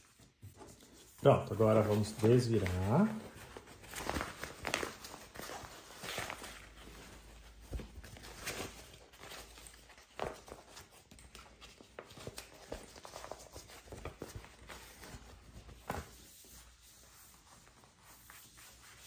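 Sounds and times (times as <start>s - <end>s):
fabric rustling and crinkling: 0.0s - 19.0s.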